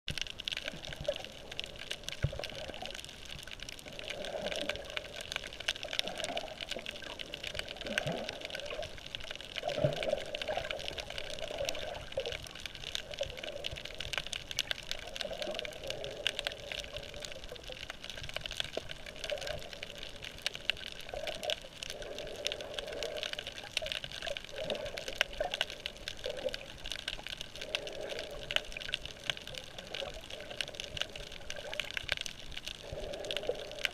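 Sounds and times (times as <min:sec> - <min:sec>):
fine crackle of clicks: 0:00.1 - 0:33.9
muffled underwater sloshing: 0:00.1 - 0:33.9.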